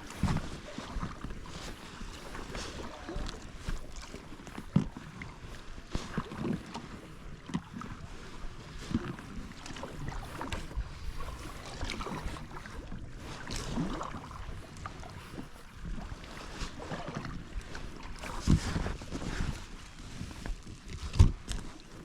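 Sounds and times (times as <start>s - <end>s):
paddle blades dipping: 0.0s - 22.0s.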